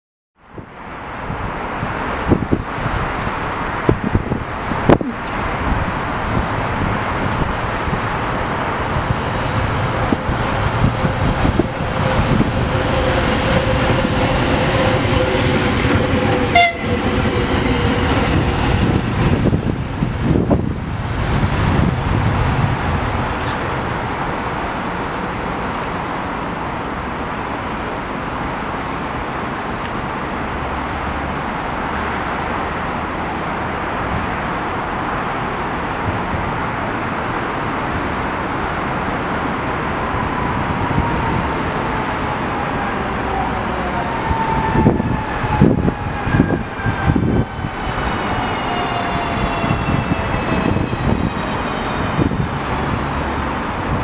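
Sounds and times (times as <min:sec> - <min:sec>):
city and railway noise: 0:00.4 - 0:54.0
diesel locomotive rumbling: 0:00.6 - 0:54.0.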